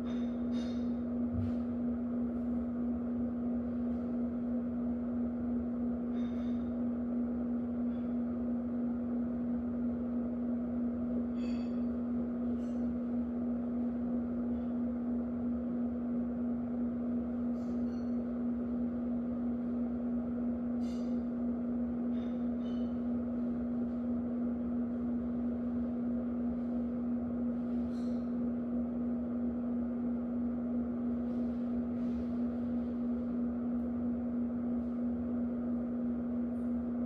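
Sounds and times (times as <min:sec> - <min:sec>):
electric fan humming: 0:00.0 - 0:37.0.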